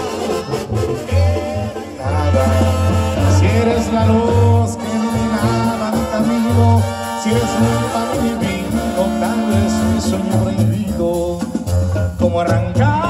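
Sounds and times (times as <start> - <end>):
singing: 0.0 - 11.5
brass band music: 0.0 - 13.0.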